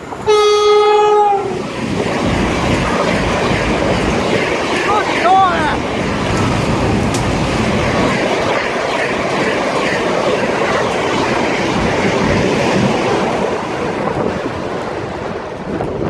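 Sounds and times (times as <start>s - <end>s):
passenger train passing at speed: 0.0s - 16.0s.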